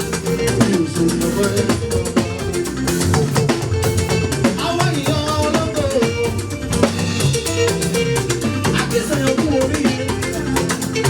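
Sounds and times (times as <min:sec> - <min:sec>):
drum kit beat: 0:00.0 - 0:11.0
guitar playing: 0:00.0 - 0:11.0
upbeat live band music: 0:00.0 - 0:11.0.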